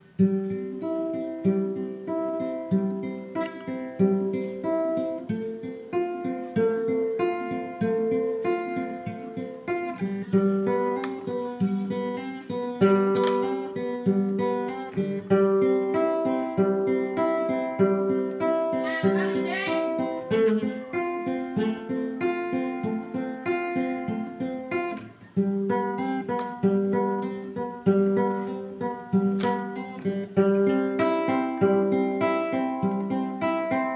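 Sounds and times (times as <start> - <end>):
guitar music: 0.0 - 33.9.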